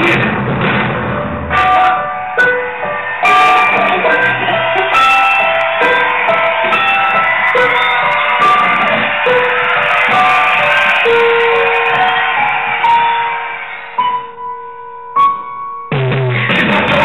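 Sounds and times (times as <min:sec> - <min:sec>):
hip-hop instrumental beat: 0:00.0 - 0:14.6, 0:15.2 - 0:17.0.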